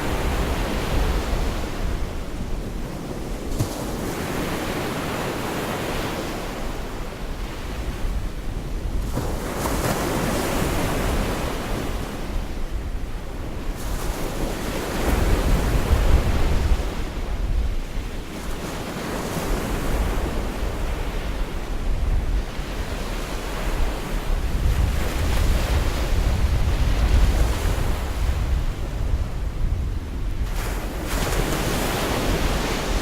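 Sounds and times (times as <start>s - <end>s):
wind buffeting microphone: 0.0s - 4.7s, 6.4s - 33.0s.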